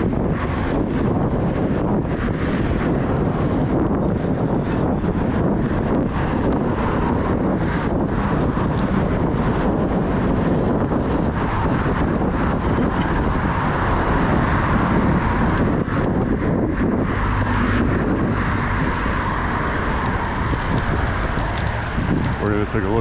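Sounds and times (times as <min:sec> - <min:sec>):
wind rush on microphone: 0:00.0 - 0:23.0.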